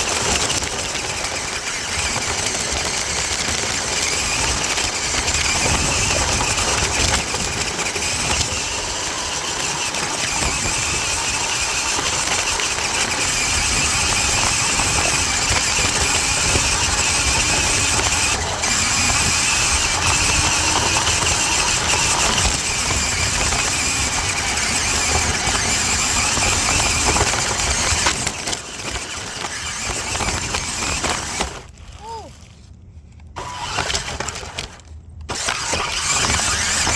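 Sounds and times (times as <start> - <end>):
toy truck electric motor whining: 0.0 - 32.3, 33.2 - 36.9
wheels rattling over ground: 0.0 - 36.9.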